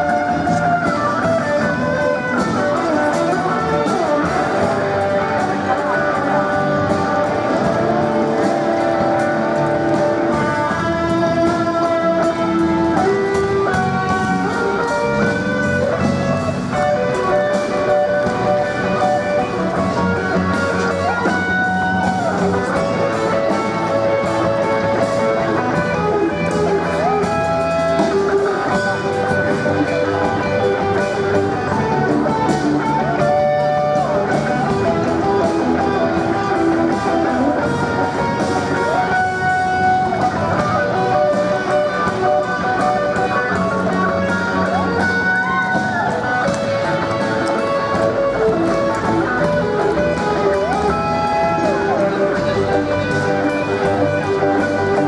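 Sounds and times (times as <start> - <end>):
electric guitar with slides: 0.0 - 55.0
live band playing: 0.0 - 55.0.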